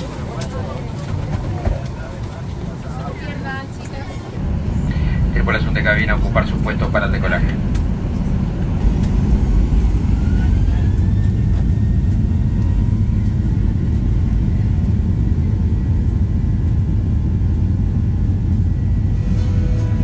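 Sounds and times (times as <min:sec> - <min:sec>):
faint engine whine: 0:00.0 - 0:20.0
jet engines rumbling in cabin: 0:00.0 - 0:20.0.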